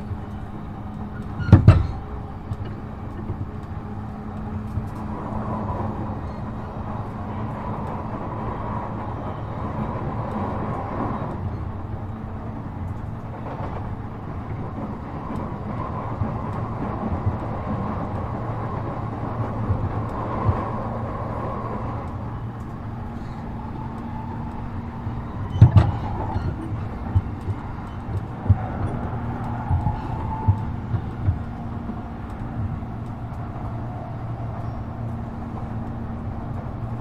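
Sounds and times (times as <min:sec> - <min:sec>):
train drive humming: 0:00.0 - 0:37.0
train wheels rumbling on rail: 0:00.0 - 0:37.0.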